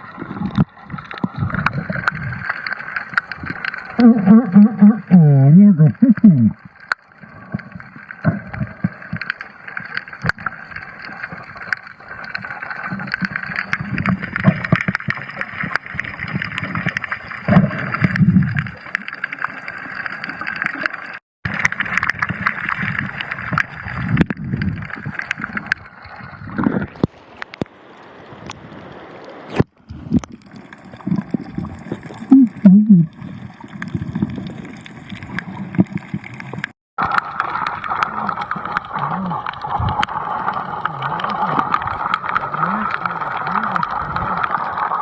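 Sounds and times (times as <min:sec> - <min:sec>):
water sloshing and splashing: 0:00.0 - 0:05.2, 0:06.3 - 0:45.0.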